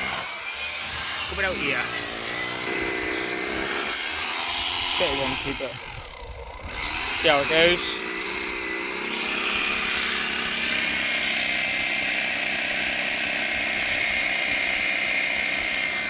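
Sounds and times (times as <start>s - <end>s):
hammer drill boring through stone: 0.0s - 16.0s.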